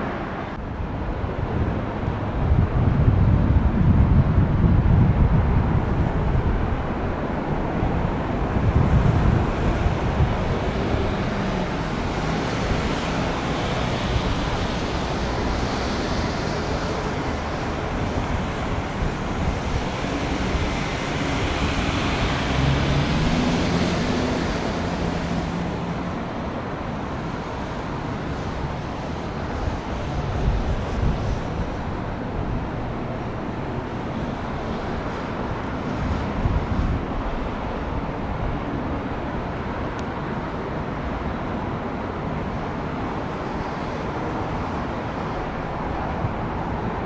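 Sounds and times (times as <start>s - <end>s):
jet engines roaring: 0.0s - 47.0s
wind buffeting microphone: 0.0s - 47.0s.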